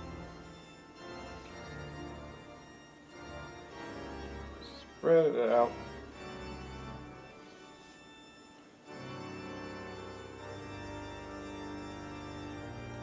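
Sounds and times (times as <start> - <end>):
slow sustained chords: 0.0 - 13.0.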